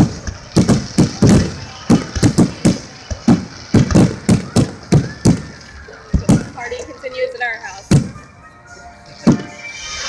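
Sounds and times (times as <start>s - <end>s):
fireworks bursting: 0.0s - 8.4s, 9.0s - 10.0s.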